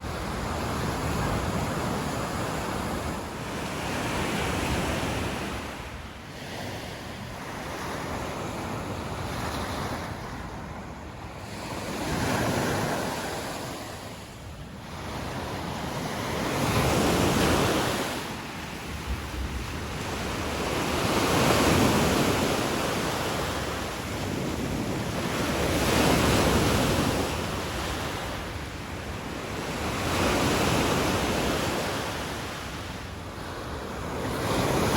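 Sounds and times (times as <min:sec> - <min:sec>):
waves breaking on beach: 0:00.0 - 0:34.9.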